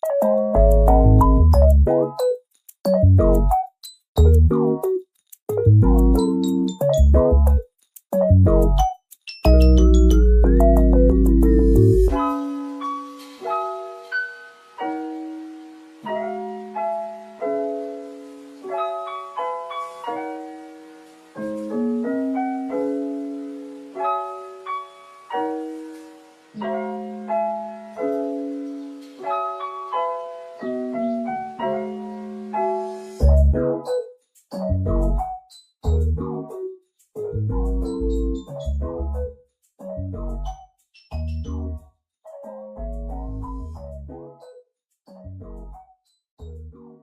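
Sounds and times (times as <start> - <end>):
gentle piano melody: 0.0 - 47.0.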